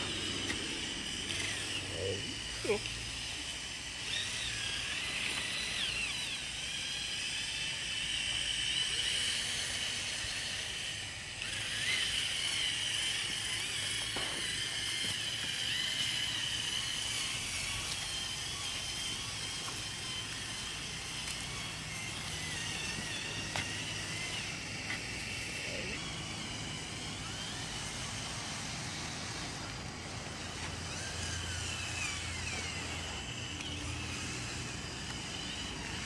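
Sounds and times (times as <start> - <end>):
electric gear motors whining: 0.0 - 36.0.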